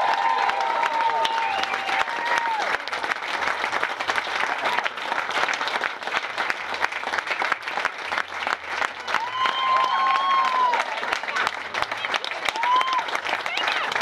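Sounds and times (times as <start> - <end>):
audience applause: 0.0 - 14.0.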